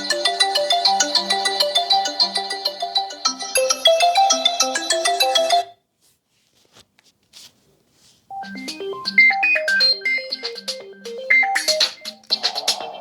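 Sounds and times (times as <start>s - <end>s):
phone ringtone melody: 0.0s - 5.8s, 8.3s - 13.0s.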